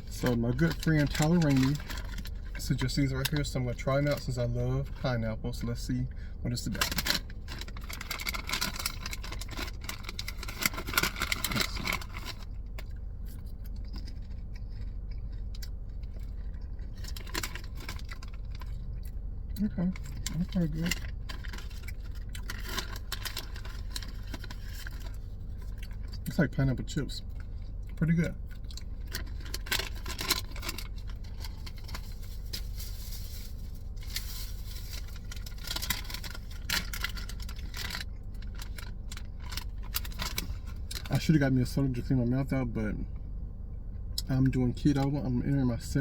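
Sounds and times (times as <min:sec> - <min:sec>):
crunching dried fruit chips: 0:00.0 - 0:42.0
steady low hum: 0:00.0 - 0:46.0
steady low rumble: 0:00.0 - 0:46.0
snack bag crinkling: 0:00.1 - 0:04.3, 0:06.6 - 0:26.4, 0:27.2 - 0:41.3.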